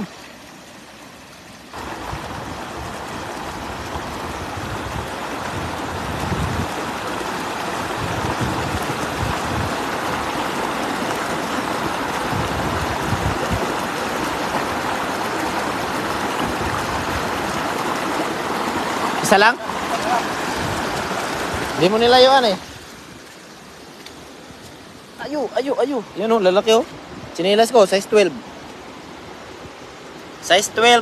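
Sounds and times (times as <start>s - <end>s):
river water rushing over rocks: 0.0s - 31.0s.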